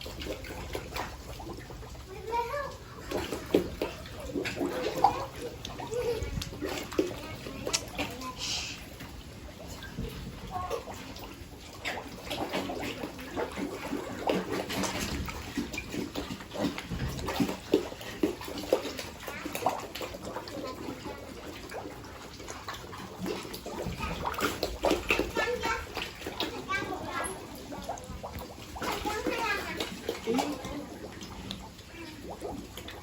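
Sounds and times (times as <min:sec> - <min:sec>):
running splashing water: 0:00.0 - 0:33.0.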